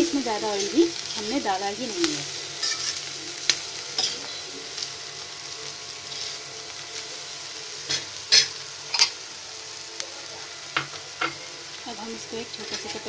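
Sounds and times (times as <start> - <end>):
pickle sizzling in oil: 0.0 - 13.0.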